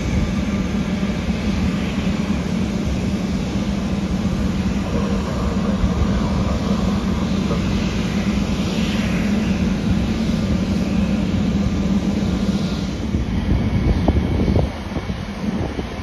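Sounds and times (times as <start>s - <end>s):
jet engines idling: 0.0s - 16.0s.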